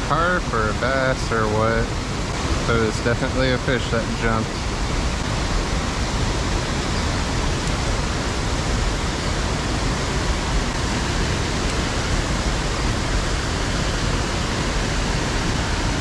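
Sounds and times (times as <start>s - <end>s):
water rushing over a spillway: 0.0s - 16.0s.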